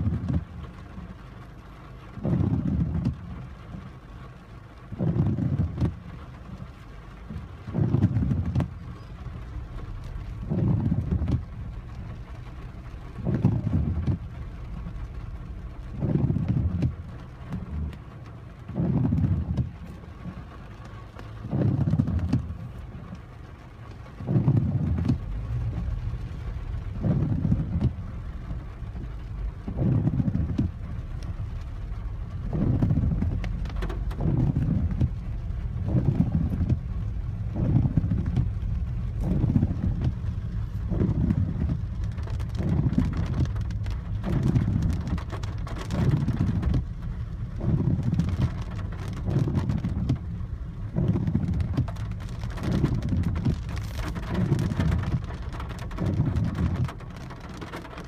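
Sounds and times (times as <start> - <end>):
car low rumble: 0.0 - 58.0
heavy rain on car: 0.0 - 58.0
windscreen wipers swishing: 0.0 - 58.0.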